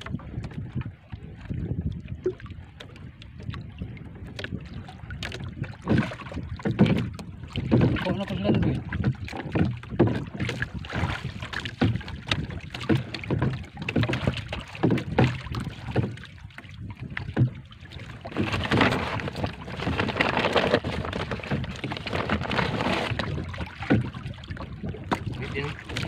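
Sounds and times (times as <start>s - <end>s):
water lapping against boat hull: 0.0s - 26.0s
wind on microphone: 0.0s - 26.0s.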